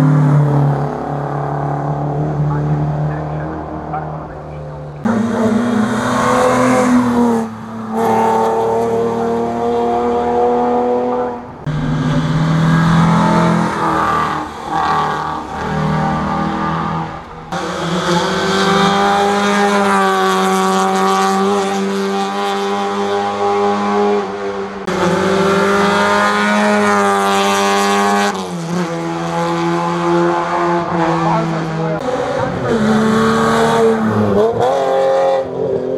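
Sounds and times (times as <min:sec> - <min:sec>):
rally car engines revving high: 0:00.0 - 0:35.9.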